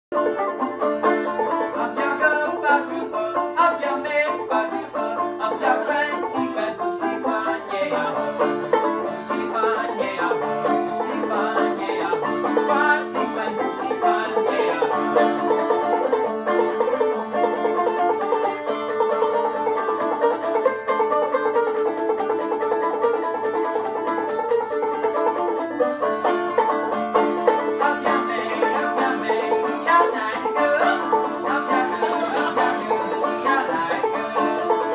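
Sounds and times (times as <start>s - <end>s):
banjo plucked notes: 0.1s - 34.9s.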